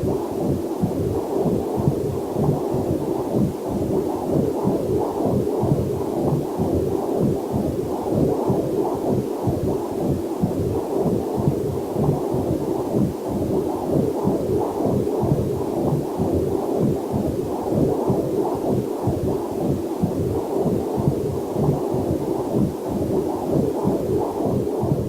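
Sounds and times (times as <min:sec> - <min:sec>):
fetal heartbeat whooshing pulses: 0:00.0 - 0:25.0.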